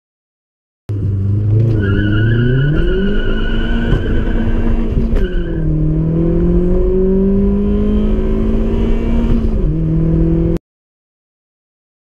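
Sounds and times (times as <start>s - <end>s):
car engine accelerating: 0.9s - 10.6s.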